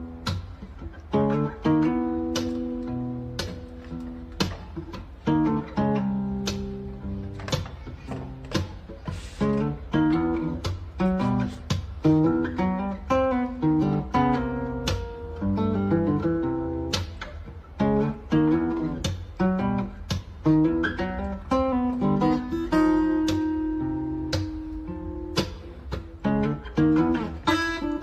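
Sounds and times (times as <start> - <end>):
acoustic guitar chords: 0.0 - 28.0.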